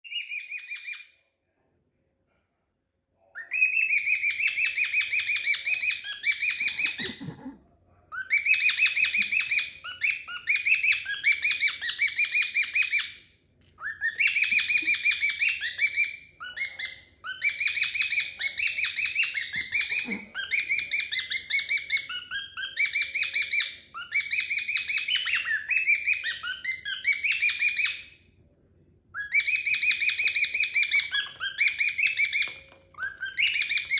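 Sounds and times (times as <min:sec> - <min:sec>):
cockatiels chirping: 0:00.1 - 0:01.1, 0:03.4 - 0:07.3, 0:08.2 - 0:28.2, 0:29.2 - 0:33.9.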